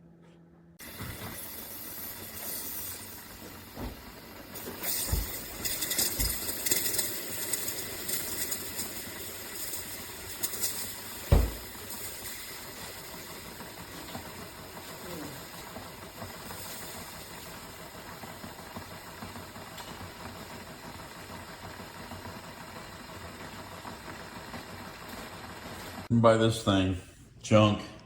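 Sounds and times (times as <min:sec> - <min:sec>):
coffee maker humming and hissing: 0:00.8 - 0:26.1.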